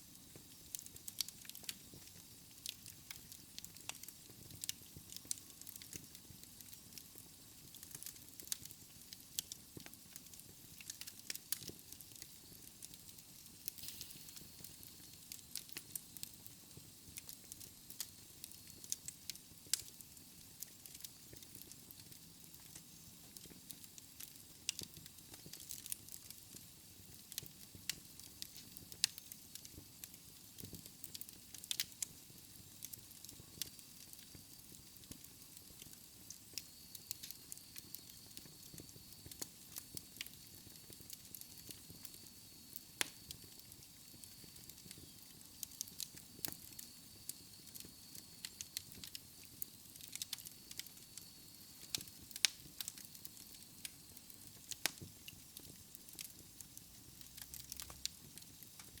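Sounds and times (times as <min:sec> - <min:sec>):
hiss of flames: 0:00.0 - 0:59.0
wood fire crackling: 0:00.0 - 0:59.0.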